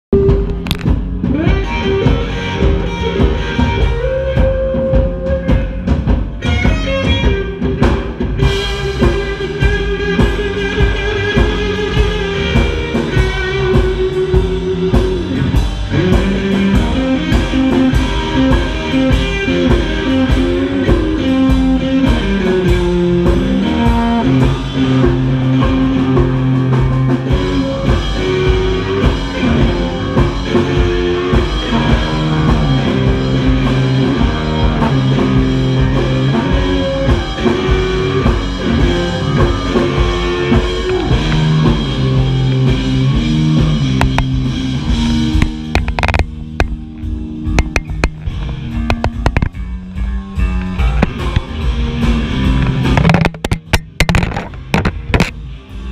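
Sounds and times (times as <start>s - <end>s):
drum kit beat: 0.1s - 55.9s
electric guitars: 0.1s - 55.9s.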